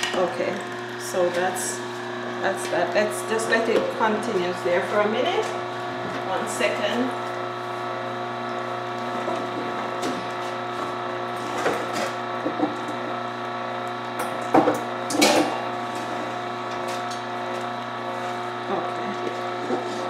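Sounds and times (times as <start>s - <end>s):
juicer motor humming: 0.0s - 20.0s.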